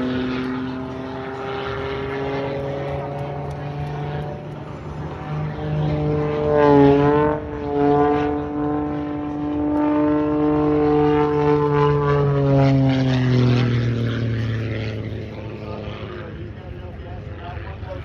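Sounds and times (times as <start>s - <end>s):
propeller airplane droning overhead: 0.0s - 18.0s.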